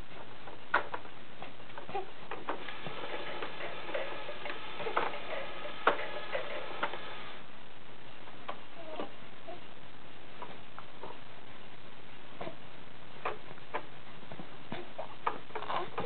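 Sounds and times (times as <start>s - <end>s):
faint electronic tune: 2.6s - 16.0s.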